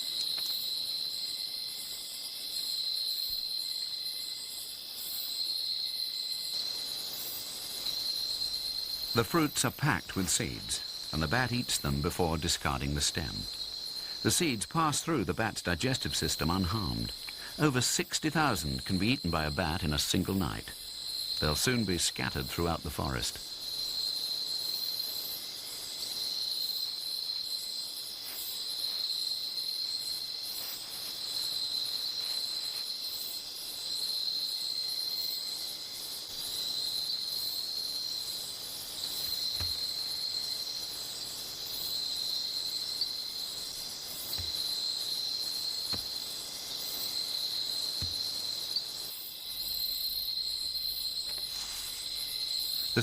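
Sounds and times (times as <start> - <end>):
fast ticking insect calls: 0.0 - 53.0
insects chirring: 0.0 - 53.0.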